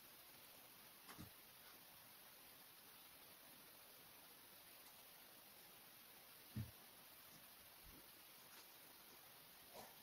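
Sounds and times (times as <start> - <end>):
faint room hiss: 0.0 - 10.0.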